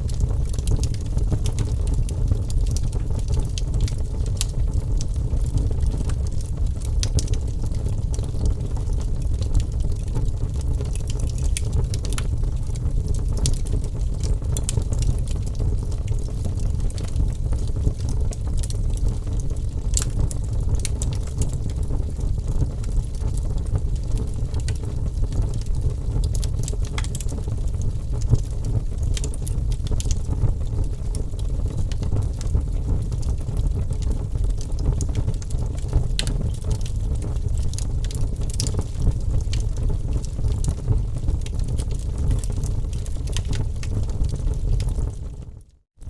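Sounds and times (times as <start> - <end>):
fire crackling and popping: 0.0 - 45.8
wood fire rumbling: 0.0 - 45.8.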